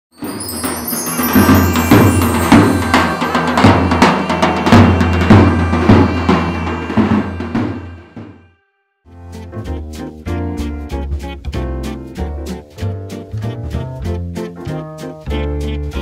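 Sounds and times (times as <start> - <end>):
music with drum beat and bass: 0.2 - 6.6, 9.1 - 16.0.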